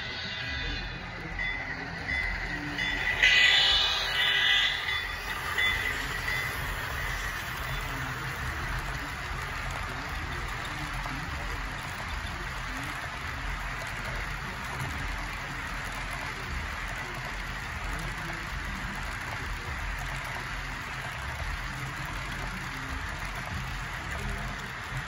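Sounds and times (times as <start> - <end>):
model train wheels rattling on rails: 0.0 - 25.0.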